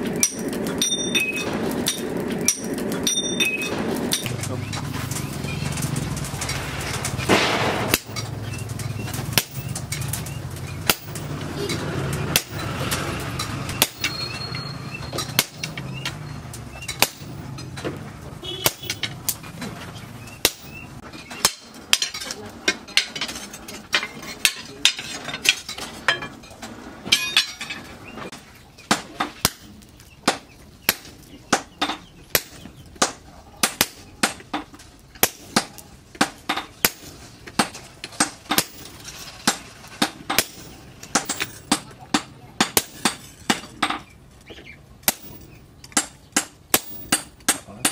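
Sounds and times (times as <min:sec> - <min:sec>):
hammer striking hot steel on anvil: 0:00.0 - 0:04.8, 0:06.5 - 0:19.4, 0:20.4 - 0:26.4, 0:27.1 - 0:27.8, 0:28.8 - 0:44.1, 0:45.0 - 0:47.9.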